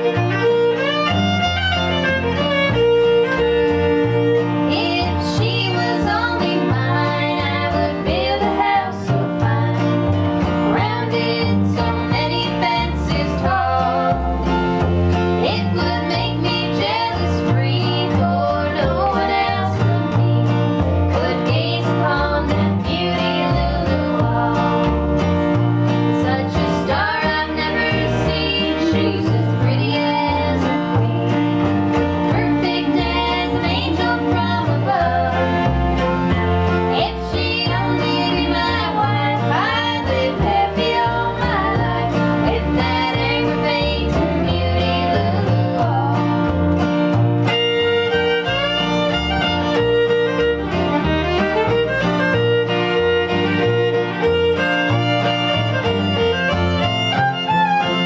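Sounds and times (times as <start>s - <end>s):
fiddle playing: 0.0s - 58.0s
strummed acoustic guitar: 0.0s - 58.0s
upright bass: 0.0s - 58.0s.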